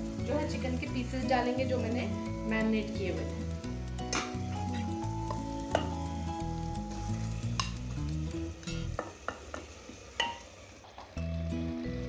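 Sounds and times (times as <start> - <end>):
background music: 0.0 - 9.1, 11.2 - 12.0
chicken sizzling in ghee: 0.0 - 12.0.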